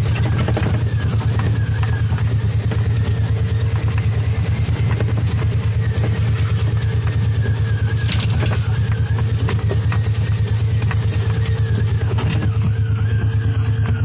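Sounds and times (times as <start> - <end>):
knocks and rattles: 0.0 - 14.0
utility vehicle engine droning: 0.0 - 14.0.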